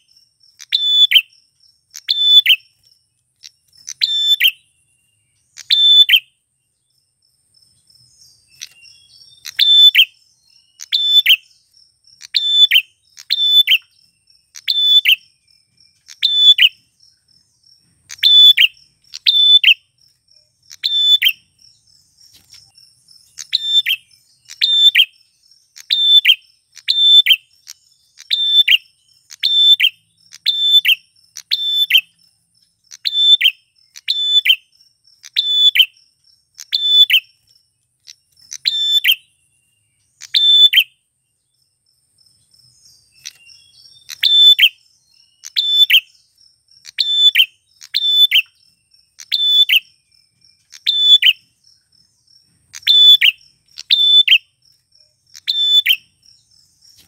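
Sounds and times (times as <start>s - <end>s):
bird chirping: 0.0s - 57.0s
high insect-like trill: 0.0s - 57.0s.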